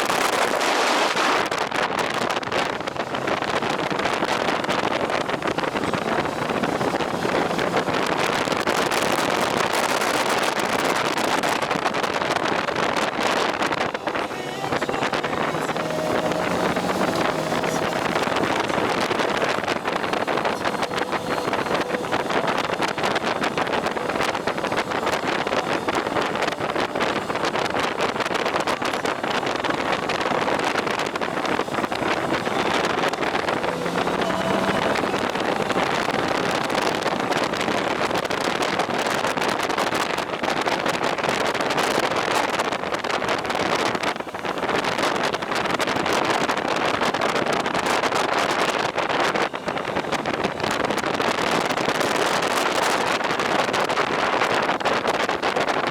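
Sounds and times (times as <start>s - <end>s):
motorcycle road noise: 0.0s - 55.9s
wind over microphone: 0.0s - 55.9s.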